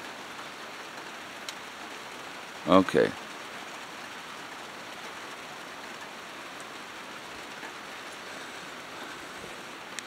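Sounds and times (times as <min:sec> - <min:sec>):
rain on plastic and wood: 0:00.0 - 0:10.0.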